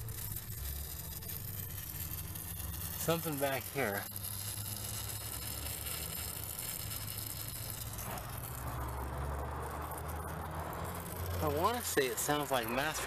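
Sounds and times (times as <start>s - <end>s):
hissing under the hood: 0.0s - 13.0s.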